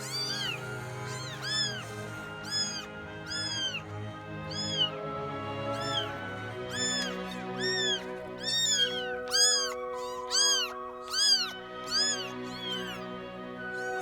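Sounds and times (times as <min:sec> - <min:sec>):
kittens mewing: 0:00.0 - 0:14.0.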